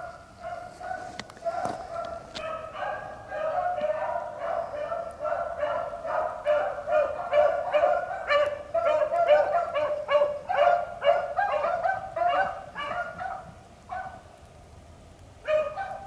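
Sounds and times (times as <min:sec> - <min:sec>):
hounds baying: 0:00.0 - 0:14.2, 0:15.5 - 0:16.0.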